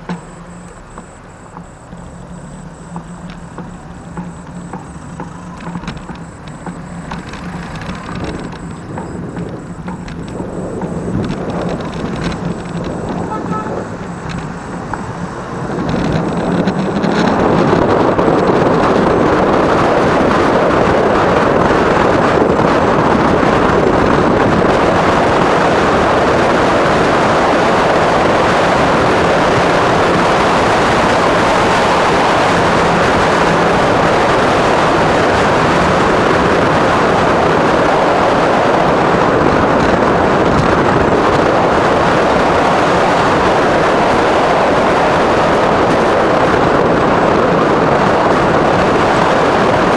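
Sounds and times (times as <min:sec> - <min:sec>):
tyres on asphalt: 0:00.0 - 0:49.9.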